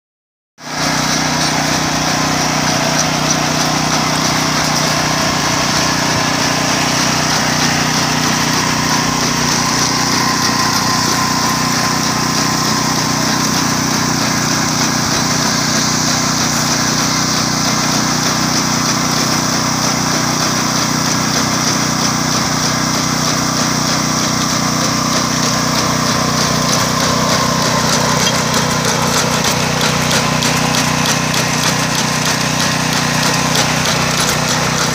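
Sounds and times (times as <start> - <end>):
small engine running: 0.6 - 34.9.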